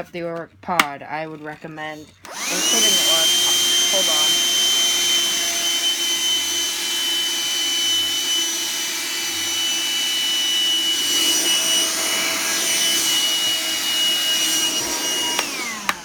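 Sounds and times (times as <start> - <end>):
vacuum cleaner whining: 2.2 - 16.0.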